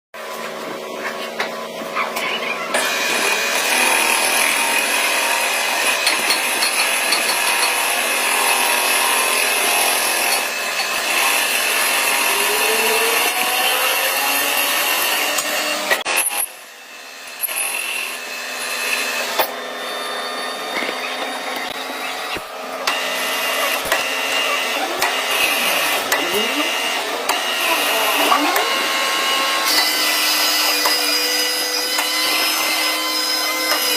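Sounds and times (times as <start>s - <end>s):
lathe humming and whining: 2.6s - 33.9s
tool scraping metal: 2.8s - 33.9s.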